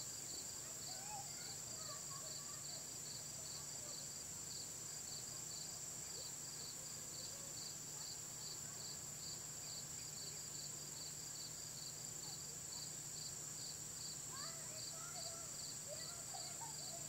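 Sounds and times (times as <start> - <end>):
insect chirping rhythmically: 0.0 - 17.0
insect high-pitched trill: 0.0 - 17.0.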